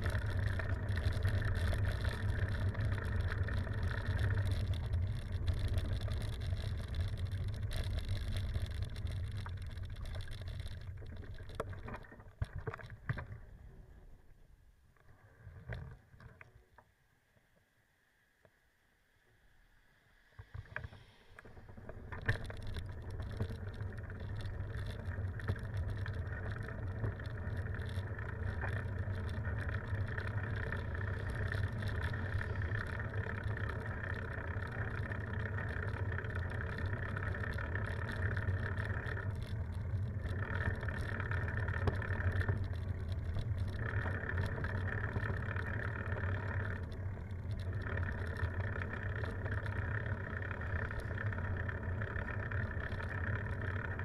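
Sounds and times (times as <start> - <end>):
bicycle clicks: 0.0 - 13.5, 20.4 - 54.0
tyre rumble on paved road: 0.0 - 13.7, 20.4 - 54.0.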